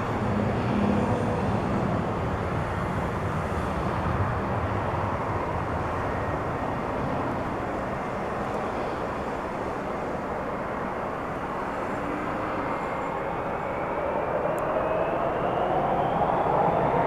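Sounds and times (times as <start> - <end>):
jet engines roaring: 0.0 - 17.0
rising engine whine: 0.0 - 17.0.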